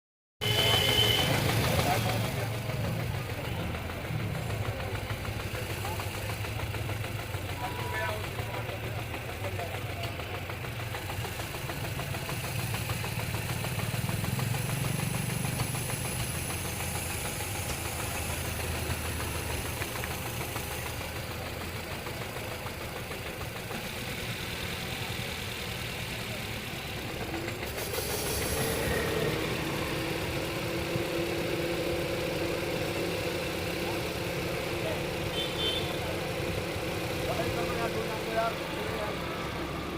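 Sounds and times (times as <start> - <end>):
car engine idling: 0.4 - 39.9
engine sharp burst: 0.4 - 39.9
engine whine: 0.4 - 39.9.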